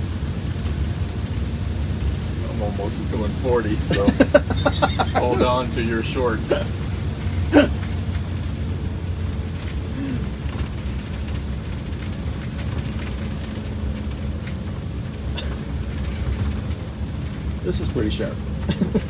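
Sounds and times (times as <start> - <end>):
diesel bus engine drone: 0.0 - 19.0
road noise: 0.0 - 19.0.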